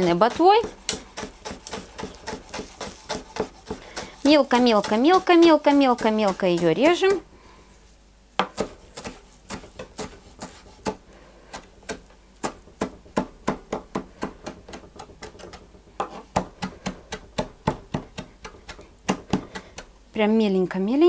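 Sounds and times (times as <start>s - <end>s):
knife chopping on wooden board: 0.0s - 7.2s, 8.4s - 19.9s.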